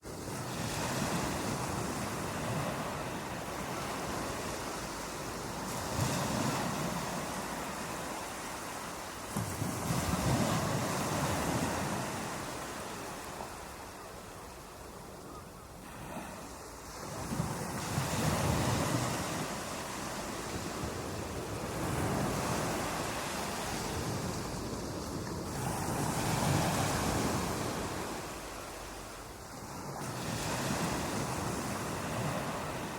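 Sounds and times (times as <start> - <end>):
ocean waves breaking on beach: 0.0 - 32.9.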